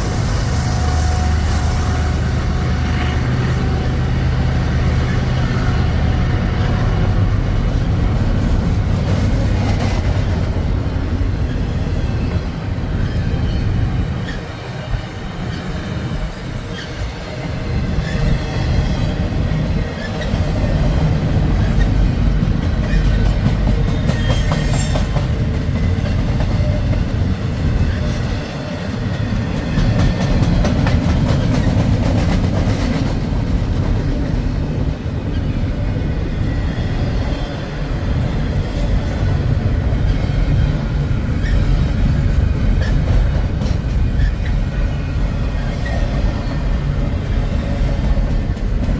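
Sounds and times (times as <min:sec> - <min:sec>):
freight train rumbling past: 0:00.0 - 0:48.9.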